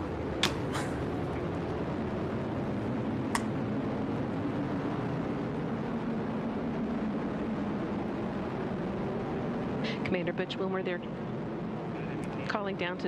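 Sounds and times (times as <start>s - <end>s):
rocket engine rumble: 0.0s - 13.0s.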